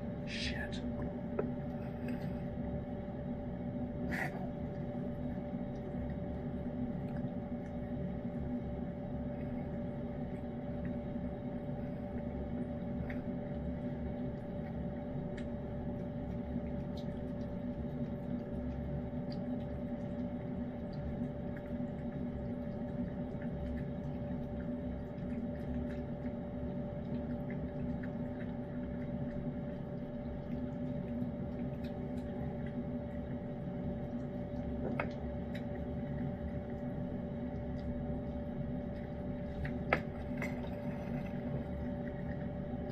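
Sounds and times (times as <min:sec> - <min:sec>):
steady room hum: 0:00.0 - 0:42.9
cat licking and chewing: 0:04.2 - 0:42.9.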